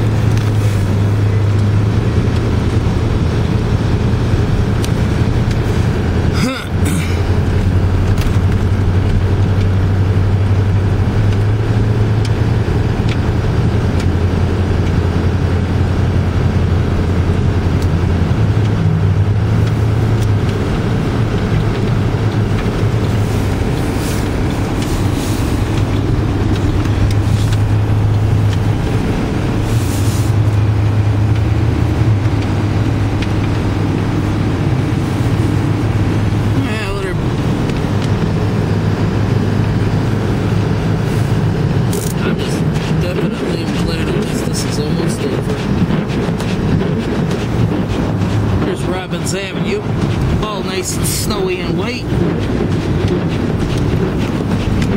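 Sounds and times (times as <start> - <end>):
car engine and road hum: 0.0 - 54.9.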